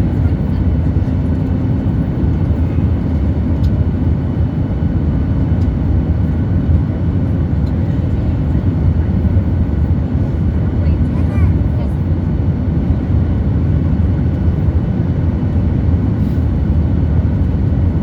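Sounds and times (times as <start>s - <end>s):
airliner engines rumbling: 0.0s - 18.0s.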